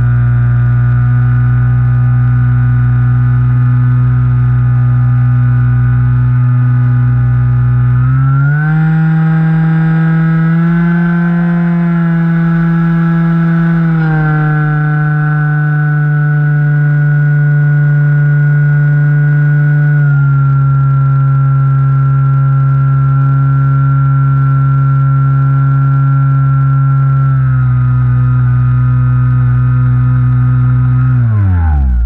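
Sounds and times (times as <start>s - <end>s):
model plane motor whine: 0.0s - 32.0s.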